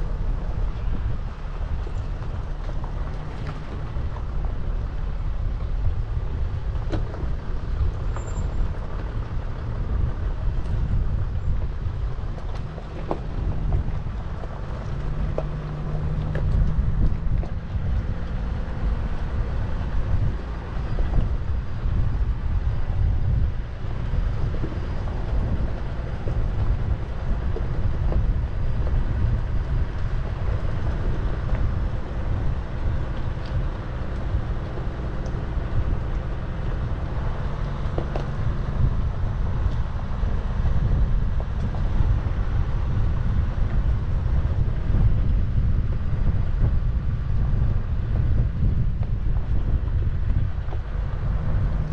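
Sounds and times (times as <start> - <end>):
vehicle engine rumbling: 0.0 - 51.9.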